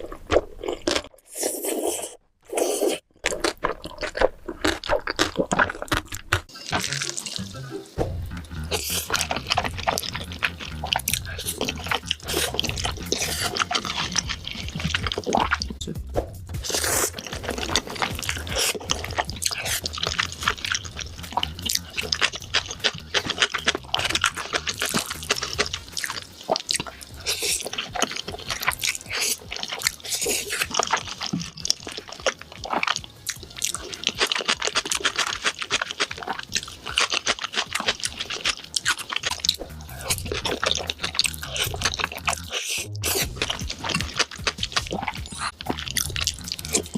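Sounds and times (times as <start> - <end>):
wet chewing with mouth clicks: 0.0 - 15.8, 16.6 - 46.9.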